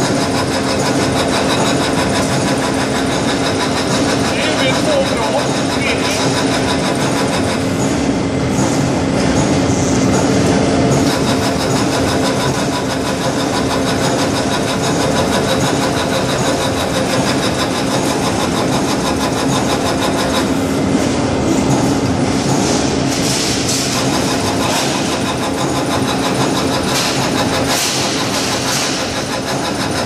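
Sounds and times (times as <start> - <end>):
sausage machine motor hum: 0.0 - 30.0.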